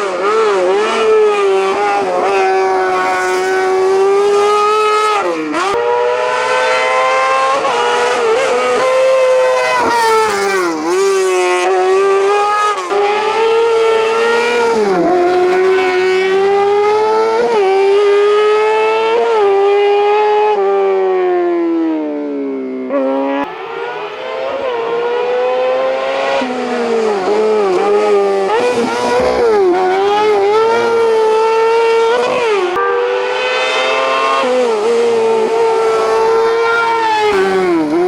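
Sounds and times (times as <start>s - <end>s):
race car engine revving: 0.0s - 20.8s, 22.0s - 38.0s.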